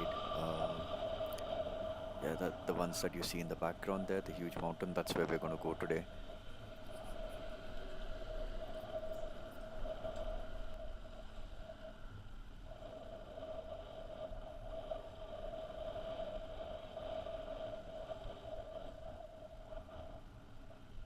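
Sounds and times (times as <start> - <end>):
steady whine: 0.0 - 21.0.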